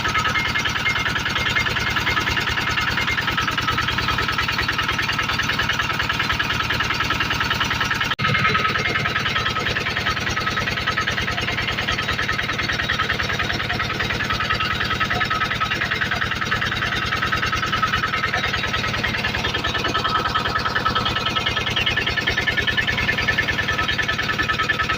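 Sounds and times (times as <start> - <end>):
generator engine running: 0.0 - 24.9.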